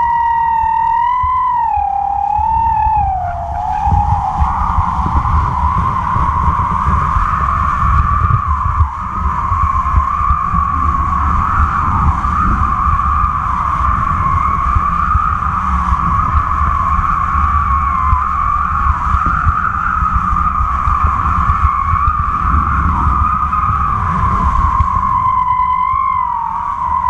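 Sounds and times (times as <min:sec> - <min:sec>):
high wind whistle: 0:00.0 - 0:27.0
wind buffeting camera: 0:00.0 - 0:27.0.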